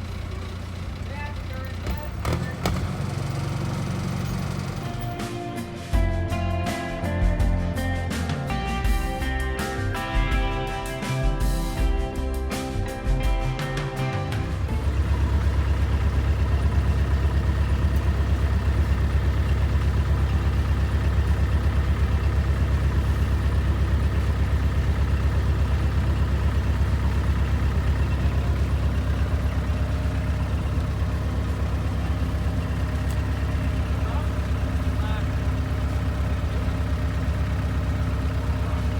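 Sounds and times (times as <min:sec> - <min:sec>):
heavy machine engine running: 0:00.0 - 0:09.4, 0:13.2 - 0:38.9.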